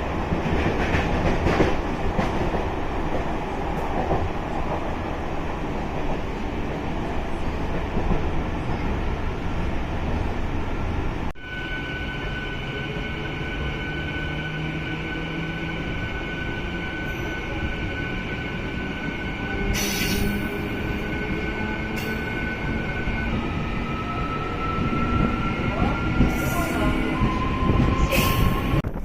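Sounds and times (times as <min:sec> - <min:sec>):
electric train running on rails: 0:00.0 - 0:29.0.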